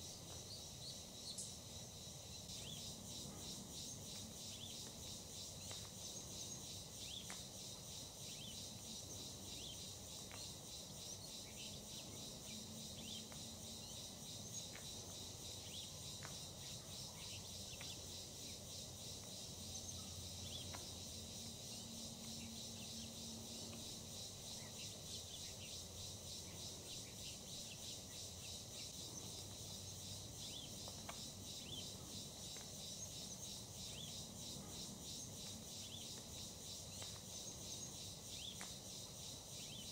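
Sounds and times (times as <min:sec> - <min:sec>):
crickets and insects trilling: 0:00.0 - 0:39.9
short insect chirps: 0:00.0 - 0:39.9.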